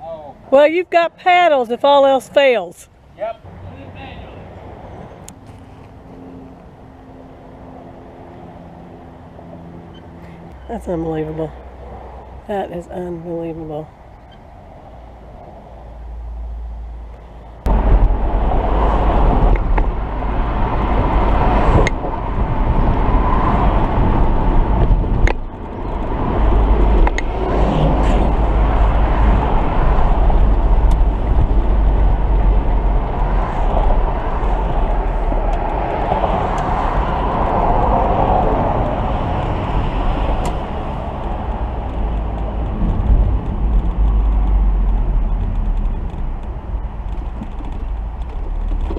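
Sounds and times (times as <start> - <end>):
vehicle rumble: 0.0 - 48.9
wind noise: 4.0 - 48.9.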